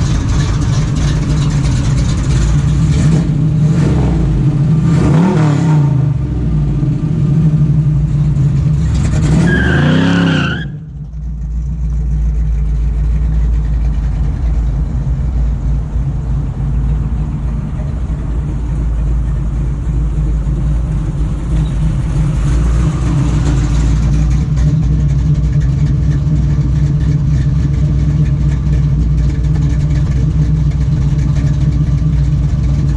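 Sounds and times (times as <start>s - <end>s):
car engine revving and idling: 0.0s - 32.9s.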